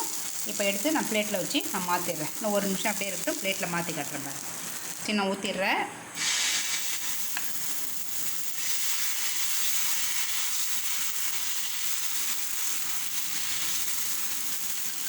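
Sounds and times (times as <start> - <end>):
batter sizzling on a griddle: 0.0 - 5.1, 6.2 - 15.0.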